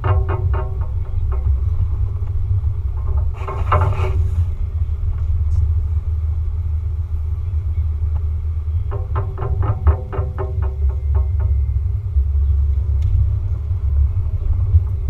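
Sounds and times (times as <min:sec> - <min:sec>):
rush of noise: 0:00.0 - 0:15.0
vehicle rumbling over gravel: 0:00.0 - 0:15.0.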